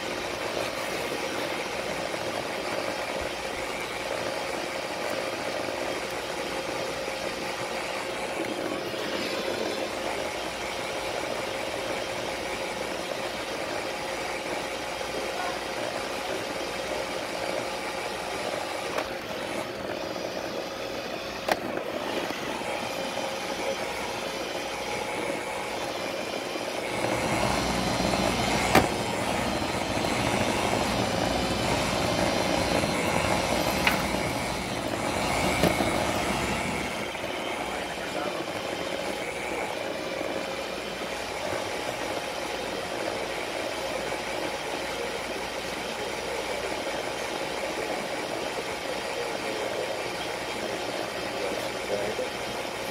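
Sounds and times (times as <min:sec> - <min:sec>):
robot vacuum motor whir: 0:00.0 - 0:52.9.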